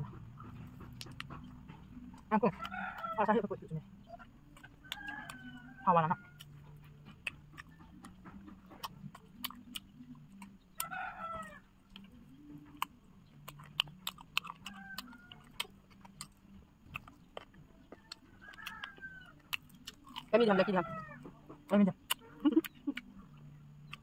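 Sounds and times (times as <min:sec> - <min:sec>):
people eating crunchy food: 0:00.1 - 0:24.0.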